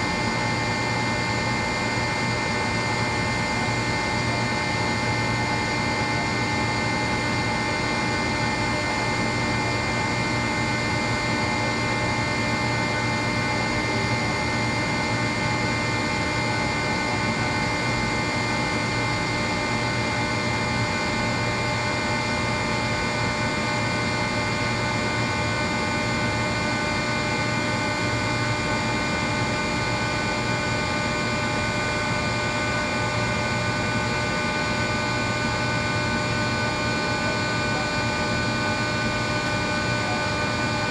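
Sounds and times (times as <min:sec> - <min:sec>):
air compressor drone: 0:00.0 - 0:40.9.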